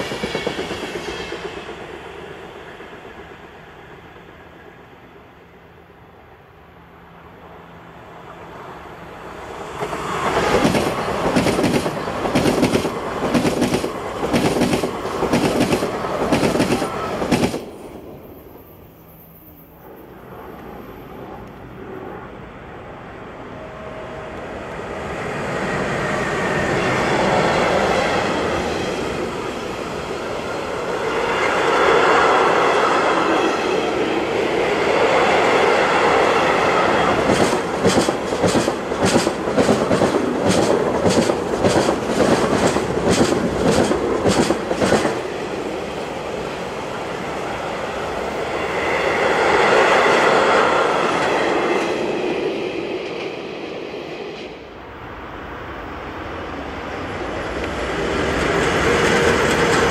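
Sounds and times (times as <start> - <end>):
train wheels rumbling on rails: 0.0 - 5.2, 9.3 - 22.2, 23.4 - 55.3, 55.9 - 59.9.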